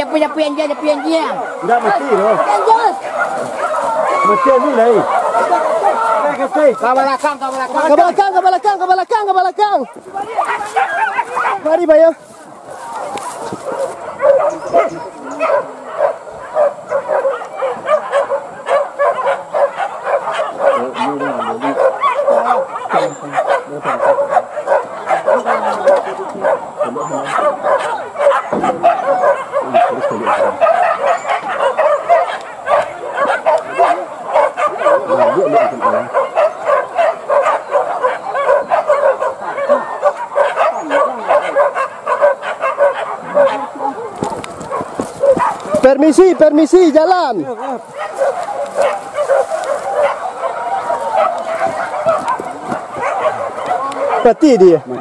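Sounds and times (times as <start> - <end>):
dogs yelping and barking: 0.0 - 8.3, 9.7 - 55.0.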